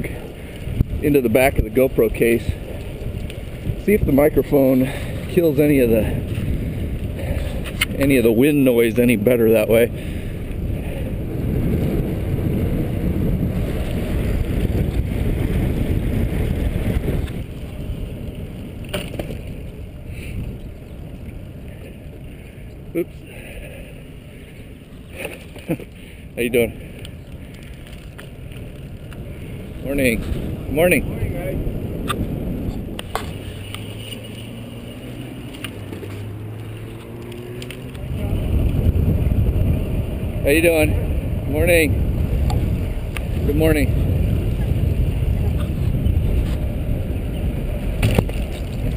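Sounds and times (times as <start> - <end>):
low wind noise on microphone: 0.0 - 48.9
wheels rolling noise: 0.0 - 48.9.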